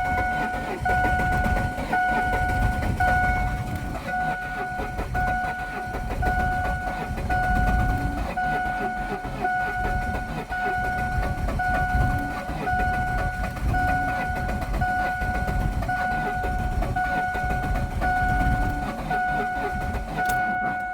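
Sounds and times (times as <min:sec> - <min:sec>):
electronic warning tone pulses: 0:00.0 - 0:20.9.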